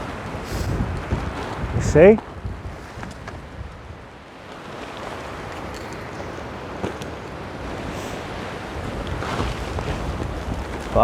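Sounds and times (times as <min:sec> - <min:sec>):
strong wind gusting on microphone: 0:00.0 - 0:11.0.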